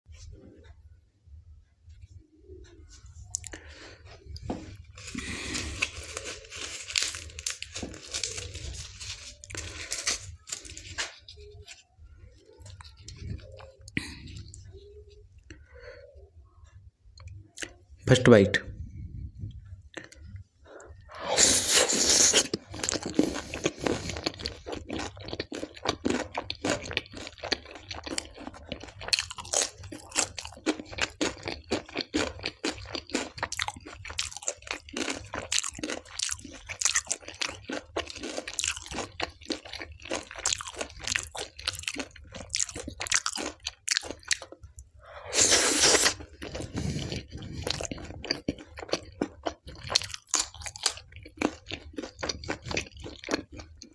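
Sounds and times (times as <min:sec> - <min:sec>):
crunching and chewing: 0:02.6 - 0:15.6, 0:19.9 - 0:53.9.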